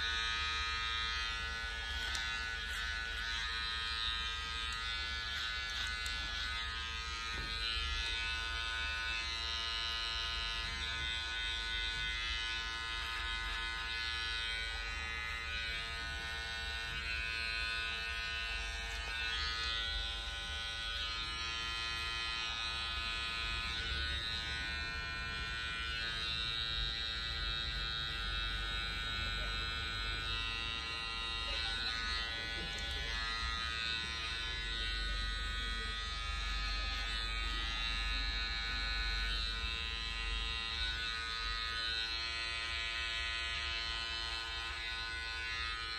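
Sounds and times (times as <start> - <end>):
electric hair clipper buzzing: 0.0 - 45.9.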